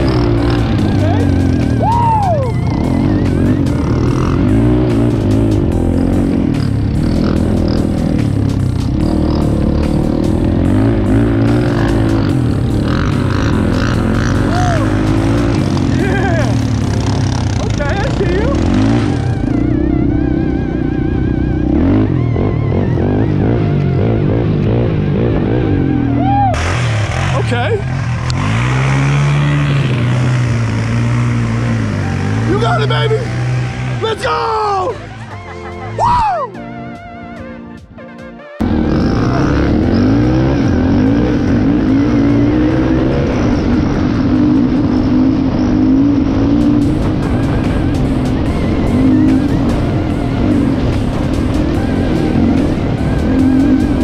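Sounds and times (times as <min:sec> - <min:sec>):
atv engines running: 0:00.0 - 0:37.6, 0:38.6 - 0:54.0
background music with bass line: 0:00.0 - 0:54.0.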